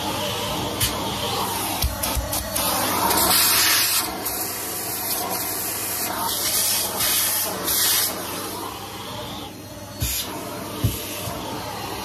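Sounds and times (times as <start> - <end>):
vacuum cleaner suction hiss: 0.0 - 12.0.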